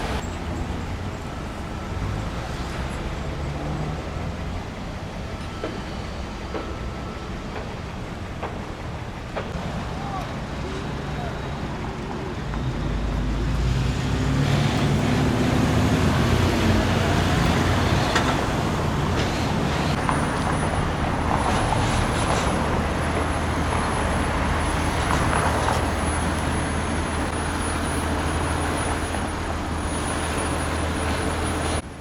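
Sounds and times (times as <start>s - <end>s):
cars and trucks rumbling past: 0.0s - 32.0s.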